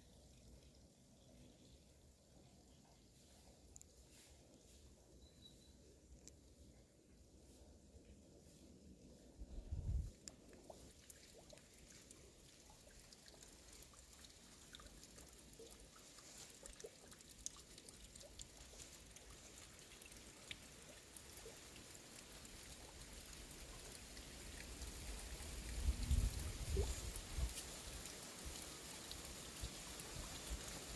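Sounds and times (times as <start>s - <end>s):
faint trickling water: 0.0s - 30.9s
small ticks and drips: 0.0s - 30.9s.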